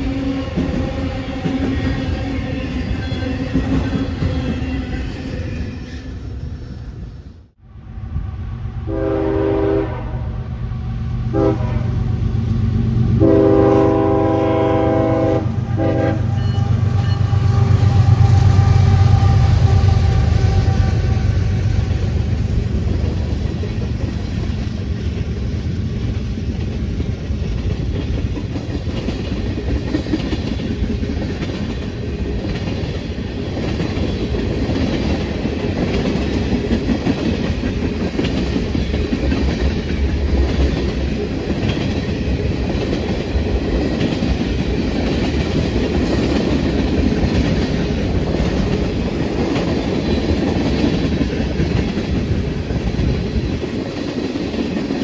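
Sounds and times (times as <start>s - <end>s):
railroad cars rumbling past: 0.0s - 55.0s.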